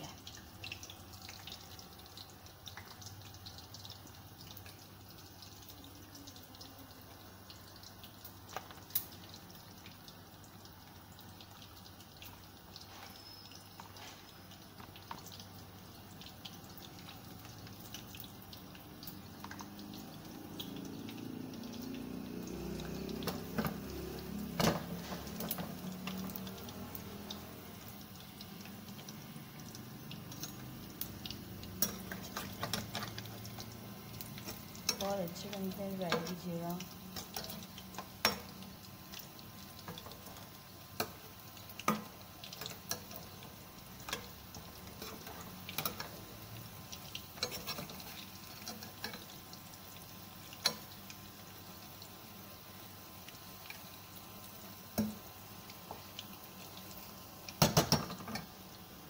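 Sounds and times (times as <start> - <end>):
deep-frying in hot oil: 0.0 - 59.0.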